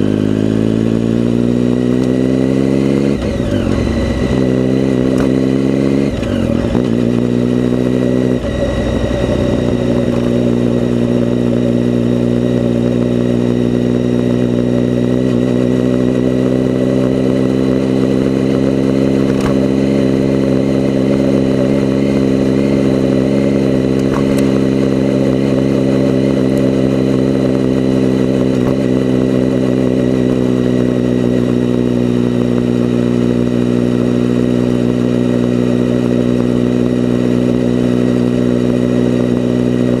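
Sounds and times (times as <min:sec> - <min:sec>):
muffled vehicle engine running: 0:00.0 - 0:40.0.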